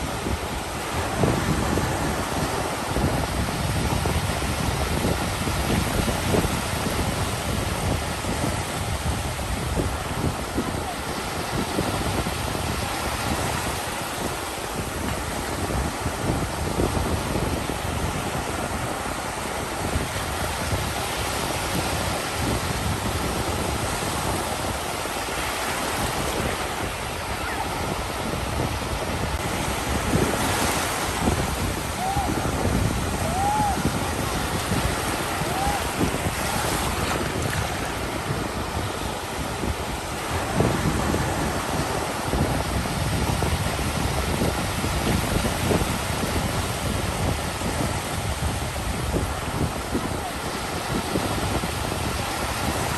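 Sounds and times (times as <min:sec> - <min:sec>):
ocean surf breaking: 0:00.0 - 0:52.9
wind buffeting microphone: 0:00.0 - 0:52.9.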